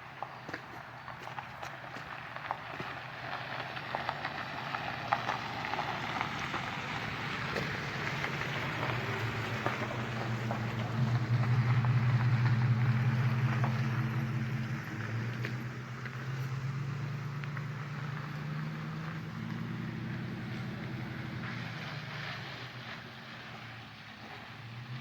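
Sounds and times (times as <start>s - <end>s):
low engine hum: 0.0s - 25.0s
tyre road noise hiss: 0.0s - 25.0s.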